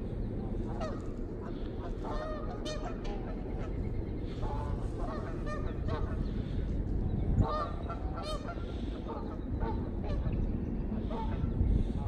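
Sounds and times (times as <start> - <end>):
geese honking: 0.0 - 12.0
low rumble: 0.0 - 12.0.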